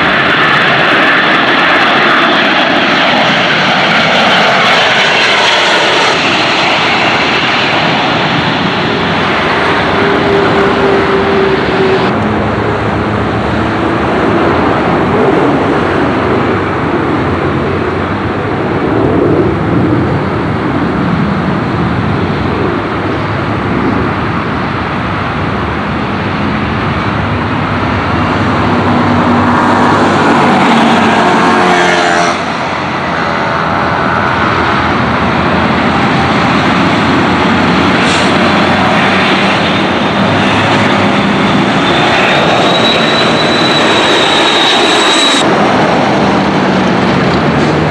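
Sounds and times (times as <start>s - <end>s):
high jet engine whine: 0.0s - 47.9s
jet airliner rumble overhead: 0.0s - 47.9s.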